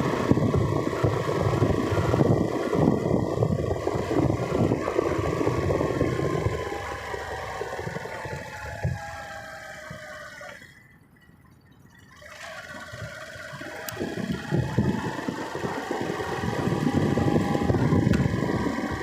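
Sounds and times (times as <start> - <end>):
road and wind rumble: 0.0 - 19.0
vehicle engine: 0.0 - 19.0.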